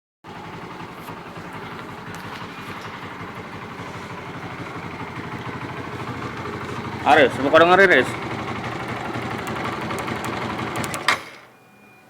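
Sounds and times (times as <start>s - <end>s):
motorcycle engine idling with rattle: 0.3s - 11.6s.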